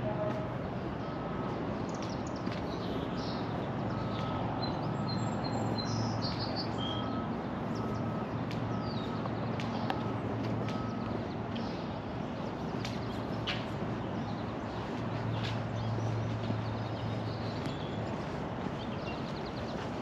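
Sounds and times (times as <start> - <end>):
distant city hum: 0.0 - 20.0
birds chirping: 0.7 - 20.0.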